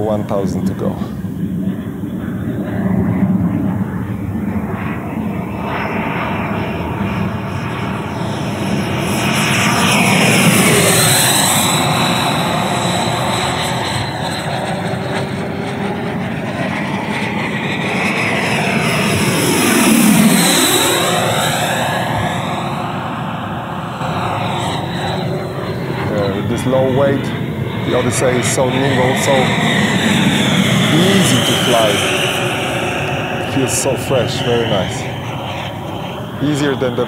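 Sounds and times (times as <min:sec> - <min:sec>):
model jet fan whine: 0:00.0 - 0:37.0.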